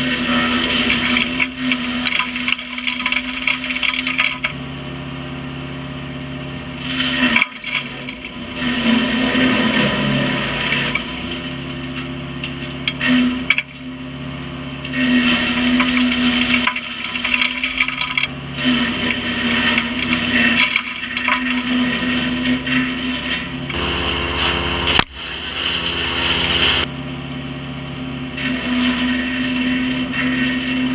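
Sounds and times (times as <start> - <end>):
wood crunching and grinding: 0.0 - 26.9, 28.2 - 30.9
wood chipper engine hum: 0.0 - 30.9.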